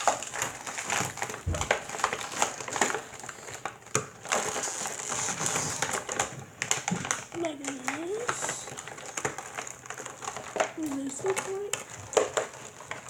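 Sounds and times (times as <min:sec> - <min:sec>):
plastic packaging crinkling: 0:00.0 - 0:13.0
plastic toy pieces clicking: 0:00.0 - 0:13.0.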